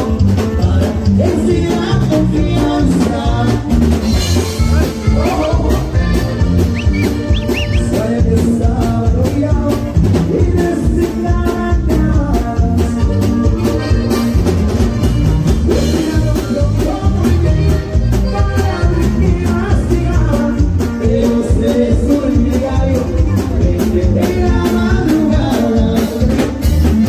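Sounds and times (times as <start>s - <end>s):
acoustic guitar: 0.0s - 27.0s
drum kit beat: 0.0s - 27.0s
electric bass: 0.0s - 27.0s
button accordion melody: 1.6s - 8.8s, 11.0s - 27.0s.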